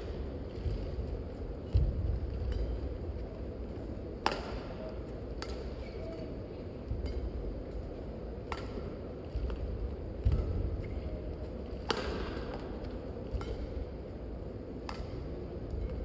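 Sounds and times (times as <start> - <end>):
rackets hitting shuttlecock: 0.0 - 3.2, 4.2 - 16.0.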